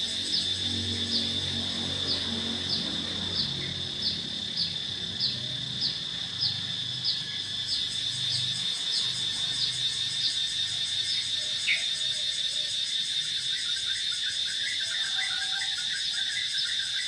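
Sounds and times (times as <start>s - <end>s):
insect chirps: 0.0s - 17.0s
insects shrilling: 0.0s - 17.0s.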